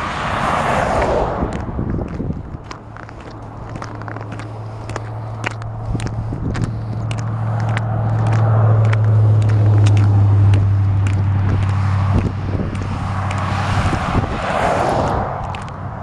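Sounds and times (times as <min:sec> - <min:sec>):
car tyres rushing past: 0:00.0 - 0:16.0
road traffic hum: 0:00.0 - 0:16.0
footsteps crunching on icy snow: 0:00.3 - 0:16.0.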